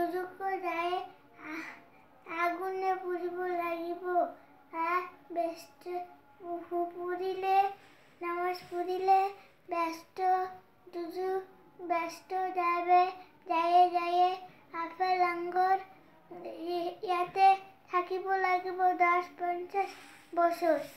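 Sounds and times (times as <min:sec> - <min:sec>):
boy chanting in sing-song melody: 0:00.0 - 0:20.9.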